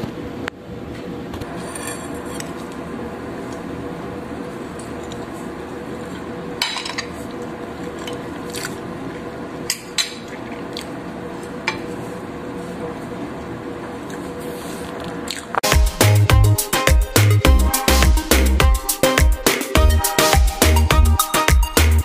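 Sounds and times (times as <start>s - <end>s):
steady background hum: 0.0s - 21.8s.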